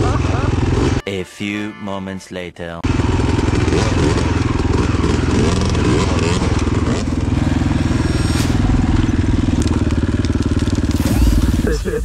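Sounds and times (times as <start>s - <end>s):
dirt bike engine running: 0.0s - 1.0s, 2.8s - 12.0s.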